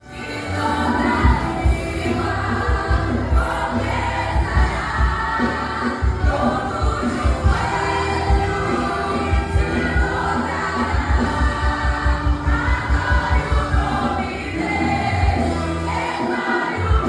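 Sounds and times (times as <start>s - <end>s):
band accompaniment: 0.0s - 17.0s
vocal group singing gospel: 0.0s - 17.0s.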